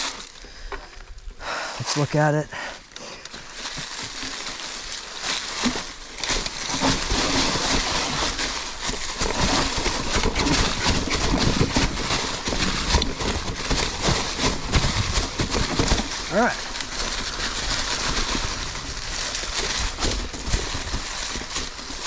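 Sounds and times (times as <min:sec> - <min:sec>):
bike tyres crunching on rock: 0:00.0 - 0:22.0.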